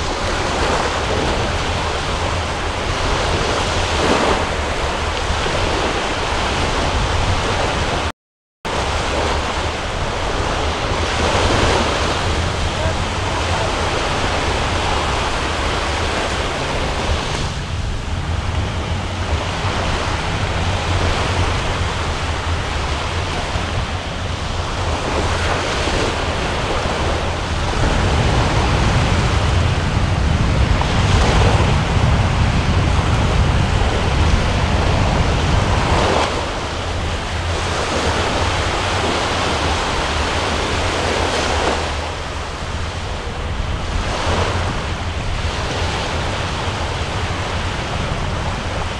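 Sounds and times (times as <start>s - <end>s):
choppy sea washing: 0.0s - 8.1s, 8.7s - 48.9s
wind buffeting microphone: 0.0s - 8.1s, 8.7s - 48.9s.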